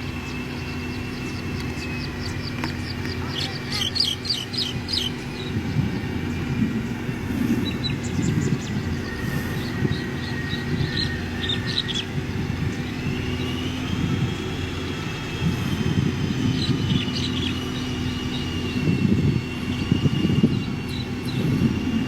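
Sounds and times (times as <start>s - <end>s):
heavy diesel engine running: 0.0s - 22.0s
thin high whine: 0.0s - 22.0s.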